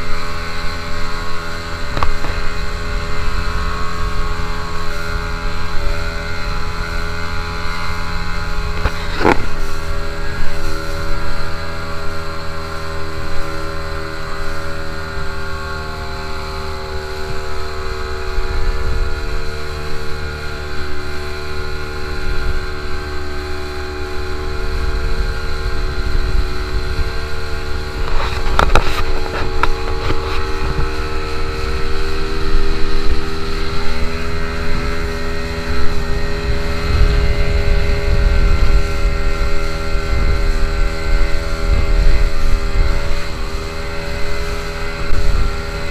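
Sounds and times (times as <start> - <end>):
motorboat engine running: 0.0 - 45.9.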